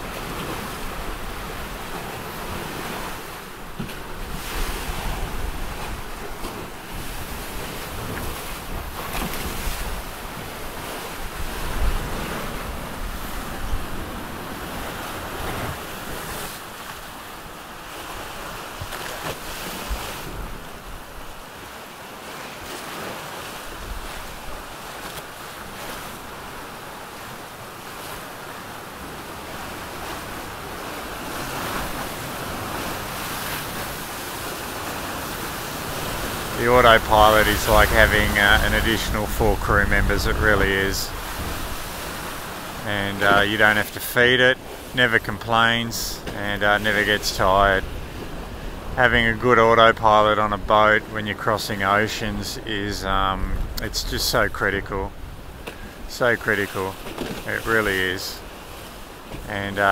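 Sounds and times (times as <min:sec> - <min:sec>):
ocean waves: 0:00.0 - 0:59.9
water rushing along hulls: 0:00.0 - 0:59.9.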